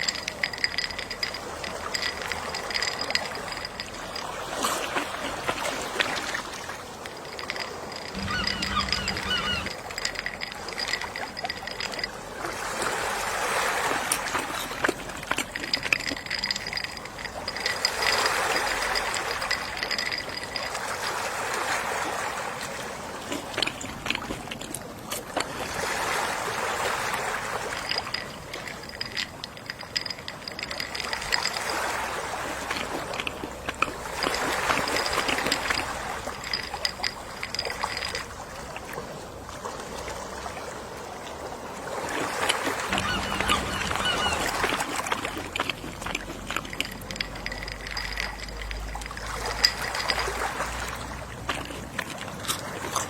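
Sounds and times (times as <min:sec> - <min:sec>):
sea waves washing onto shore: 0:00.0 - 0:53.0.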